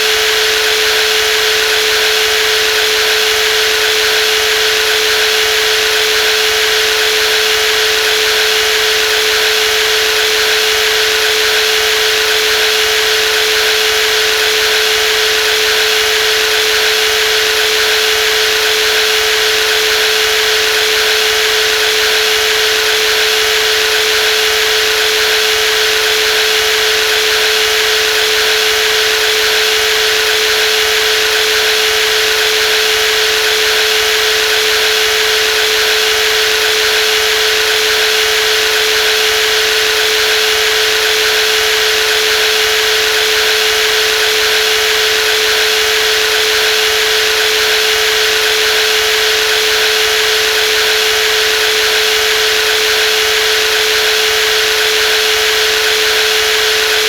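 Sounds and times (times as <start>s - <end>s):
jigsaw running: 0.0s - 57.0s.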